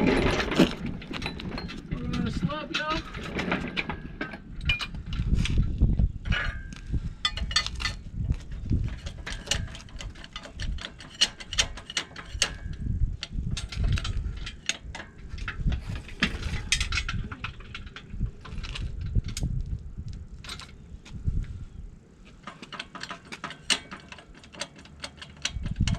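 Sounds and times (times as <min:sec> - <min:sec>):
wind gusting on microphone: 0:00.0 - 0:24.4, 0:25.4 - 0:25.9.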